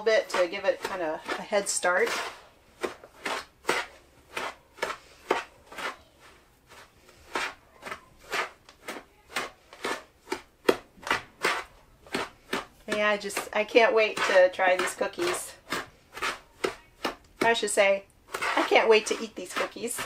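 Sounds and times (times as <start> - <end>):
spoon scraping mixing bowl: 0.0 - 20.0.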